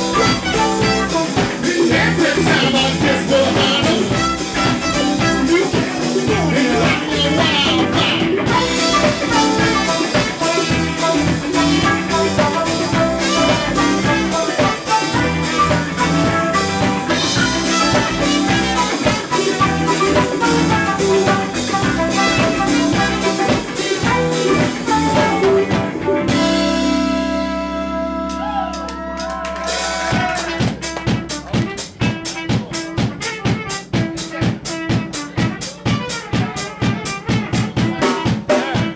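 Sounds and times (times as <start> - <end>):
drum kit: 0.0 - 38.9
live band playing: 0.0 - 38.9.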